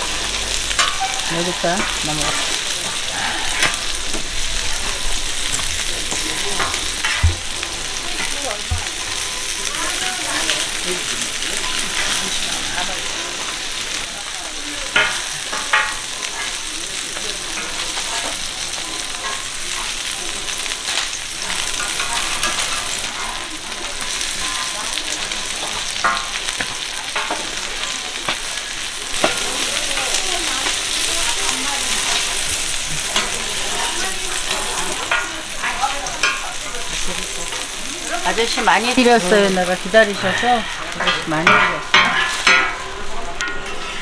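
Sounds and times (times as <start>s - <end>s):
pancakes sizzling in oil: 0.0s - 44.0s.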